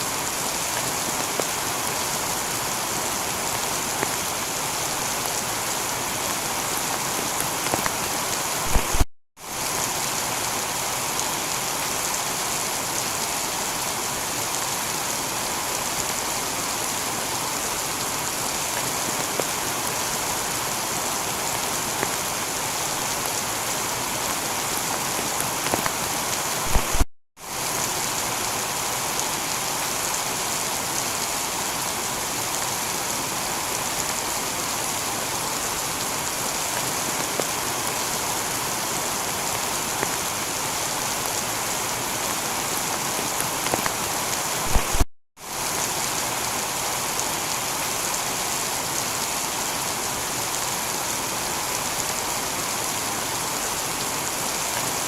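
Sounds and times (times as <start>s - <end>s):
heavy rain on a tiled roof: 0.0s - 55.0s.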